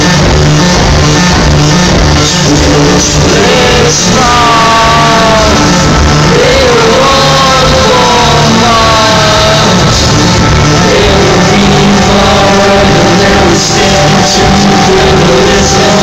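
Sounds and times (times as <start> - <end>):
live rock band: 0.0 - 16.0
pulsing bass beat: 0.0 - 16.0
person singing drawn-out lines: 2.4 - 16.0.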